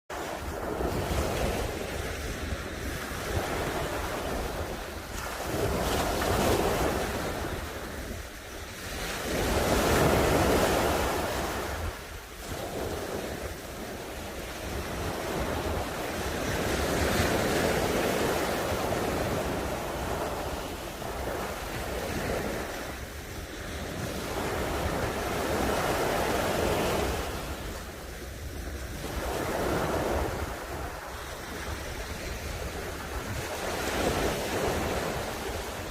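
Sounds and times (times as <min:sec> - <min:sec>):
waves breaking on a beach: 0:00.1 - 0:35.9
wind rumble on microphone: 0:00.1 - 0:35.9.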